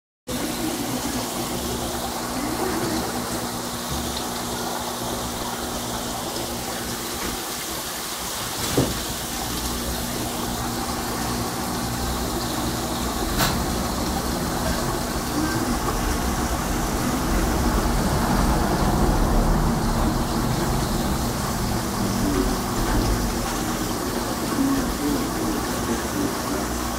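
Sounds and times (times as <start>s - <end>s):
water and bubbles rushing: 0.3s - 26.9s.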